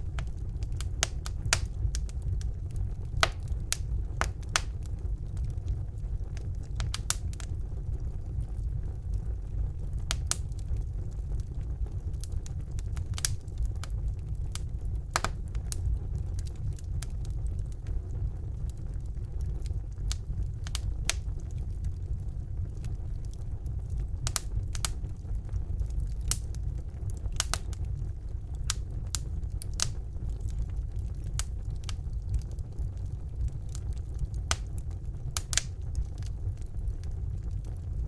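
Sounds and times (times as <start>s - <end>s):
fire crackling and popping: 0.0s - 38.0s
fire flames rumbling: 0.0s - 38.0s.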